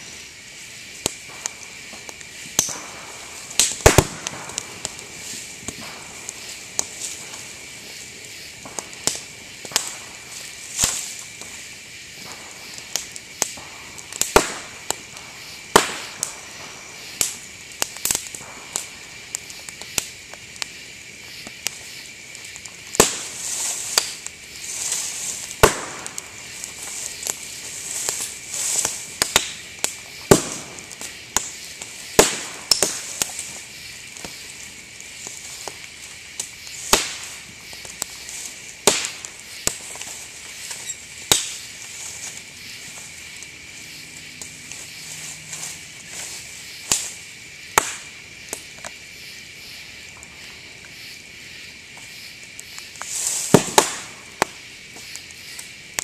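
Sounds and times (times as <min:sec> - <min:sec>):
bamboo bursting in fire: 0:00.0 - 0:56.0
fire crackling: 0:00.0 - 0:56.0.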